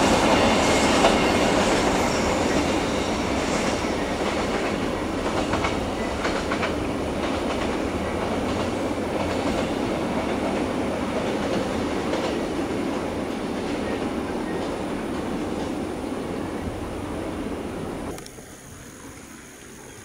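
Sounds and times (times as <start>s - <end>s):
train wheels rumbling on rails: 0.0s - 18.1s.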